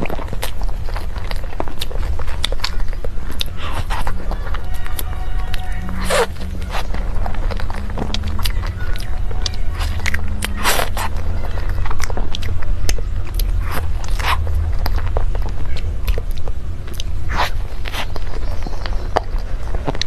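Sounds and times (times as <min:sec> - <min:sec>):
steady low hum: 0:00.0 - 0:20.0
wet chewing: 0:00.0 - 0:20.0.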